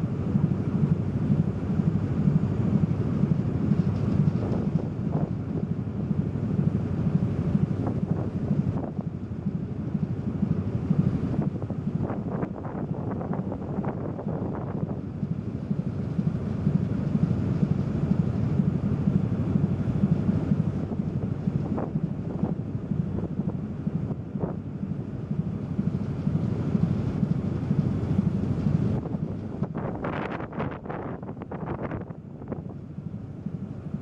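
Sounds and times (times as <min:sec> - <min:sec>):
ship engine low rumble: 0:00.0 - 0:34.0
wind buffeting microphone: 0:00.0 - 0:34.0.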